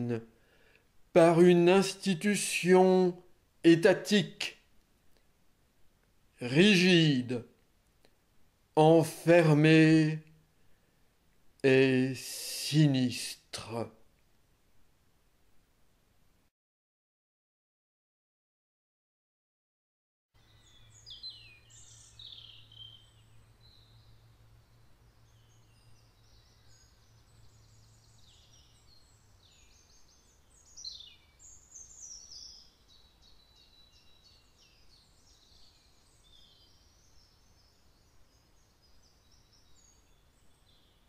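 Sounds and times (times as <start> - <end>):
songbirds chirping and trilling: 0.0 - 5.3, 6.4 - 13.9, 20.4 - 41.0.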